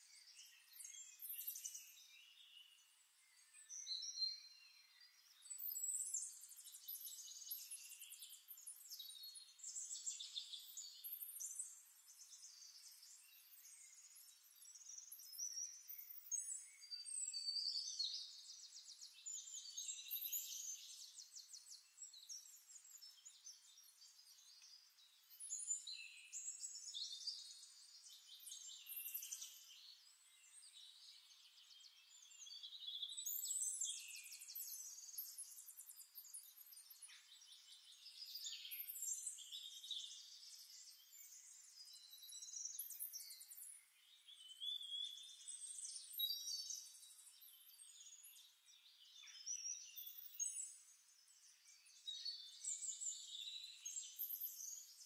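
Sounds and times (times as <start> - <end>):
faint birdsong chirps and trills: 0.0 - 55.0.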